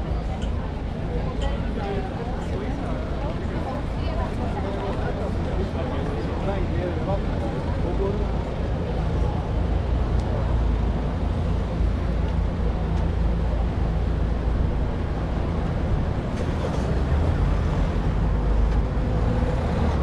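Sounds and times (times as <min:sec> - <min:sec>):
road noise: 0:00.0 - 0:20.0
traffic engine rumble: 0:00.0 - 0:20.0.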